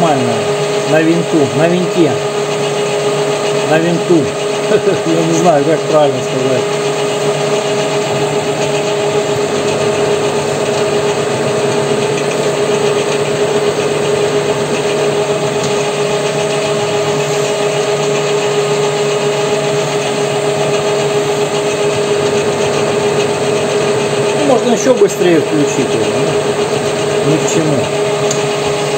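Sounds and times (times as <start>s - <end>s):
lathe machine whine: 0.0s - 28.9s.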